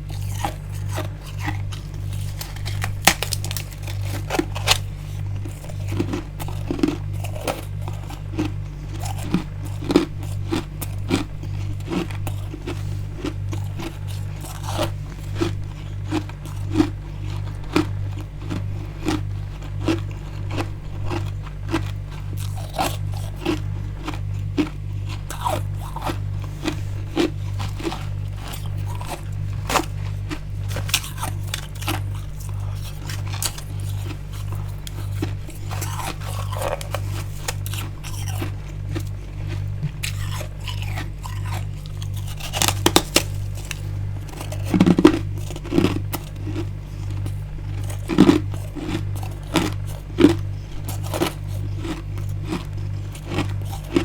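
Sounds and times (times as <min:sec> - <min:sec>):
crunching and chewing ice: 0:00.0 - 0:54.0
low pulsing hum: 0:00.0 - 0:54.0.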